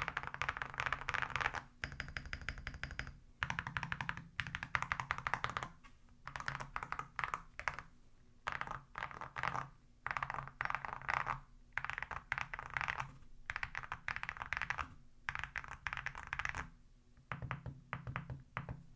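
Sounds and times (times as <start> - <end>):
mechanical keyboard typing: 0.0 - 5.7, 6.3 - 7.8, 8.5 - 16.7.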